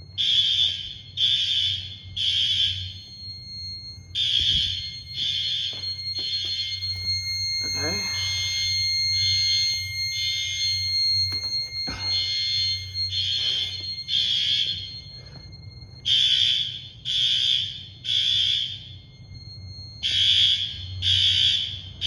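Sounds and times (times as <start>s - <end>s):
fire alarm blasts: 0.0s - 22.0s.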